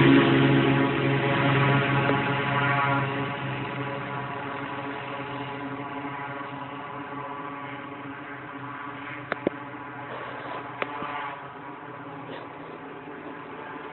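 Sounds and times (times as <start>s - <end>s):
plane piston engine droning: 0.0s - 13.9s.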